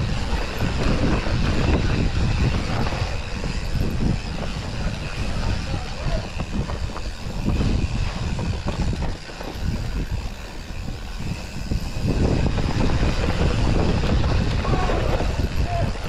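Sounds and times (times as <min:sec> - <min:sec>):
bike rattling knocks: 0:00.0 - 0:16.0
bike tyre rumble on dirt: 0:00.0 - 0:16.0.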